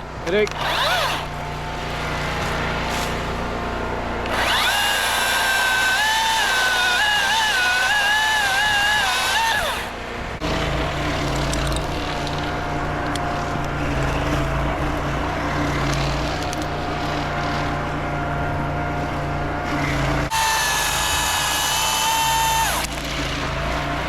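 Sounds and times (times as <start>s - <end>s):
steady engine drone: 0.0s - 24.0s
electric chainsaw cutting: 0.3s - 24.0s.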